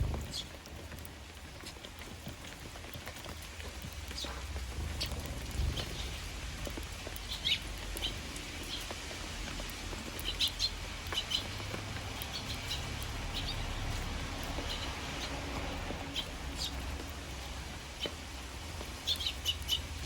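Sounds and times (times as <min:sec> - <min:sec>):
rain pattering: 0:00.0 - 0:20.0
sparrows chirping: 0:00.0 - 0:20.0.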